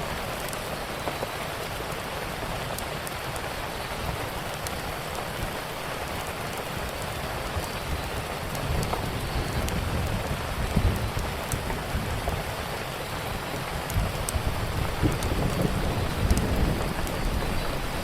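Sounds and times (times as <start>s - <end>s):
rain: 0.0s - 18.0s
wood fire crackling: 0.0s - 18.0s.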